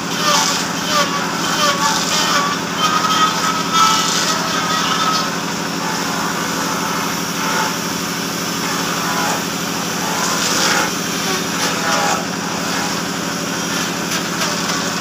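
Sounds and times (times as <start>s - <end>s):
electric router cutting wood: 0.0s - 15.0s.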